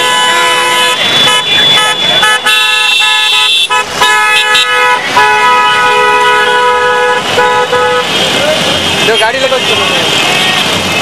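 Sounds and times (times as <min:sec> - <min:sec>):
car horns honking: 0:00.0 - 0:11.0.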